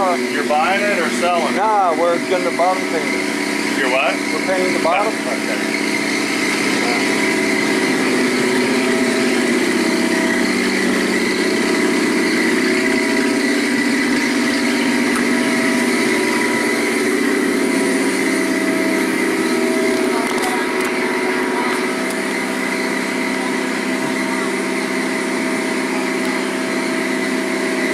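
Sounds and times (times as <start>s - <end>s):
boat lift engine humming: 0.0s - 27.9s.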